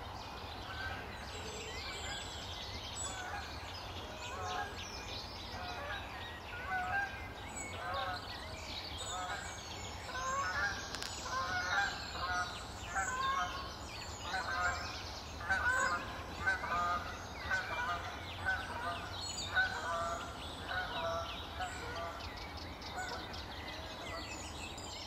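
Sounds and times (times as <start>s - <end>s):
birds calling: 0.0s - 25.0s
small birds chirping and singing: 0.0s - 25.0s.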